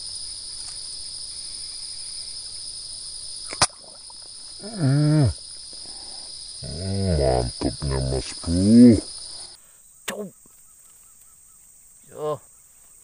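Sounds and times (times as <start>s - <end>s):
insects chorus shrill tone: 0.0s - 13.0s.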